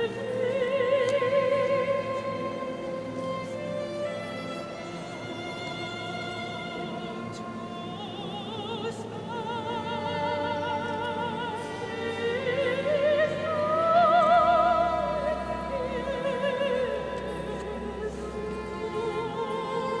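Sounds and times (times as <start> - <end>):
men's choir singing sustained chords: 0.0 - 20.0.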